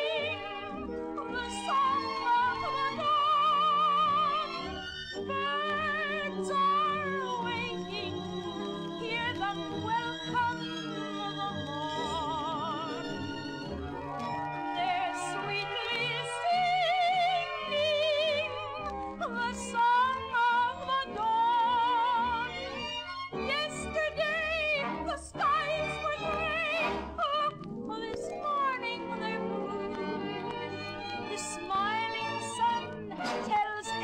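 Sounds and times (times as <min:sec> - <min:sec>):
woman singing operatically: 0:00.0 - 0:13.2, 0:14.7 - 0:22.6, 0:23.4 - 0:34.0
orchestral accompaniment: 0:00.0 - 0:34.0.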